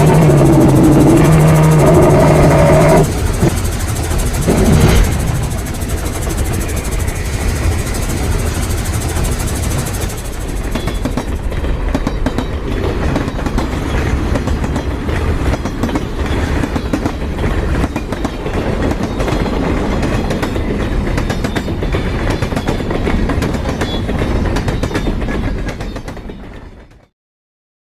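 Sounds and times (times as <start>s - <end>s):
wheels clicking over track: 0.0s - 26.8s
train rumbling on rails: 0.0s - 27.1s.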